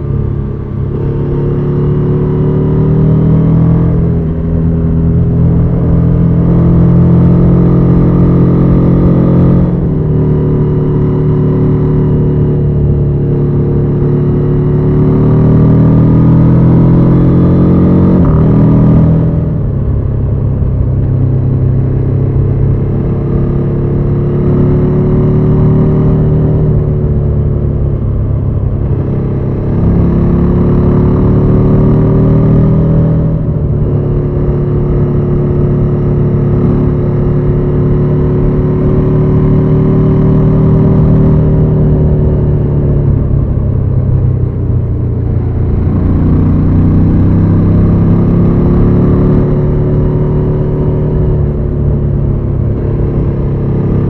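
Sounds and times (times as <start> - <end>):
motorcycle engine at cruising speed: 0.0 - 54.0.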